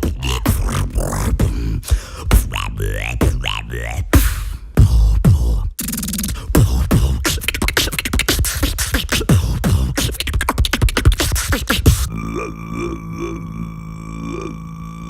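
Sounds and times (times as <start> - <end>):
beatboxing bass thump: 0.0 - 12.1
beatboxing clicks and pops: 0.0 - 12.1.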